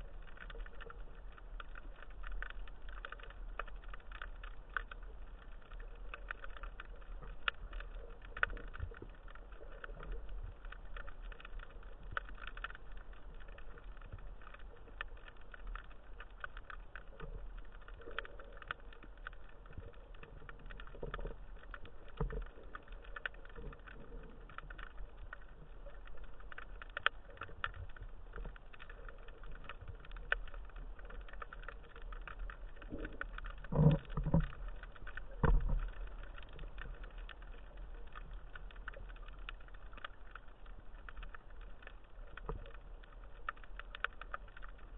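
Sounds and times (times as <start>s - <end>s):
underwater crackle of clicks: 0.0s - 44.9s.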